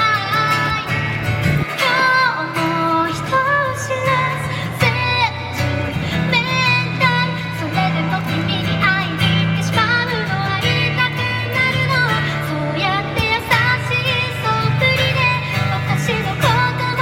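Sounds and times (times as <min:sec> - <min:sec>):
acoustic guitar: 0:00.0 - 0:17.0
woman singing: 0:00.0 - 0:17.0.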